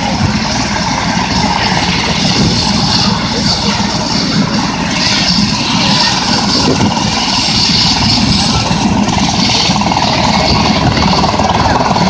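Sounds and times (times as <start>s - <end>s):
helicopter rotor pulse: 0.0s - 12.0s
helicopter turbine whine: 0.0s - 12.0s.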